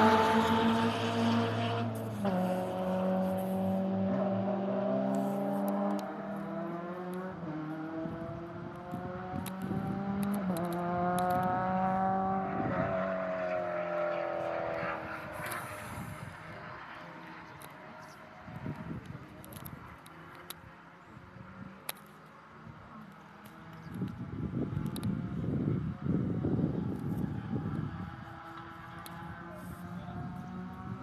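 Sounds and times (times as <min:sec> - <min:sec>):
race car engines shifting gears: 0:00.0 - 0:25.8, 0:26.4 - 0:31.0.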